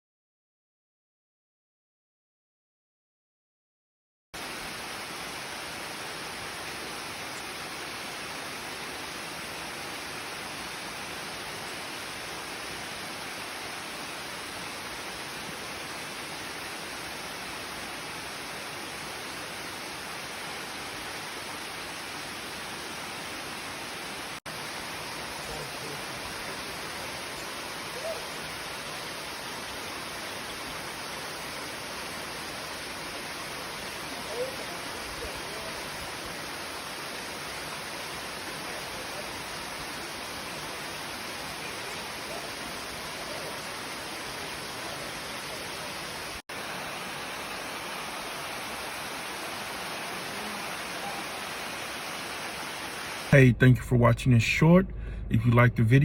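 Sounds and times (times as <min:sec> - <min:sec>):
waterfall rushing: 0:04.4 - 0:53.3.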